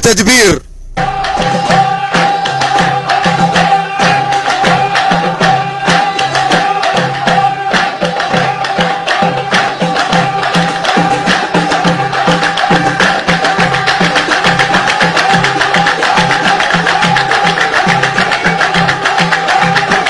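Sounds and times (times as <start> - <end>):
fast hand-drum beat: 1.0 - 20.0.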